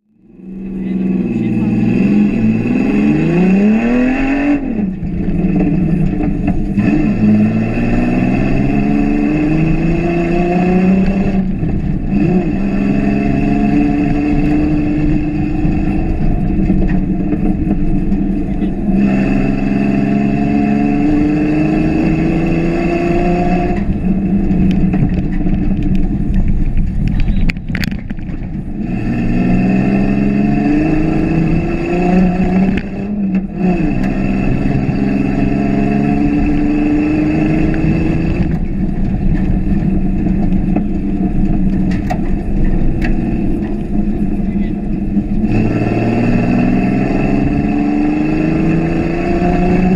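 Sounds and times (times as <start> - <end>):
engine revving under throttle: 0.2 - 26.7, 27.8 - 49.9.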